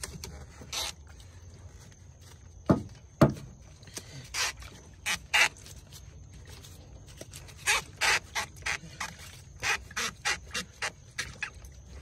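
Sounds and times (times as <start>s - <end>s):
rubber hose scraping: 0.0s - 2.0s, 3.7s - 12.0s.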